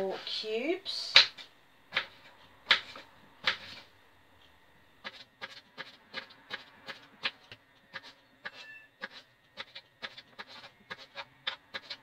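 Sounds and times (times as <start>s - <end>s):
knife chopping on wooden board: 1.2s - 3.8s, 5.0s - 12.0s.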